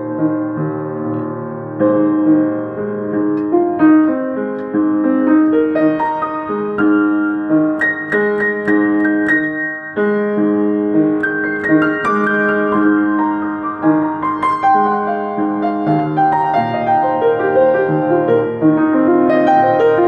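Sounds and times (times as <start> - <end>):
solo piano improvisation: 0.0 - 20.0.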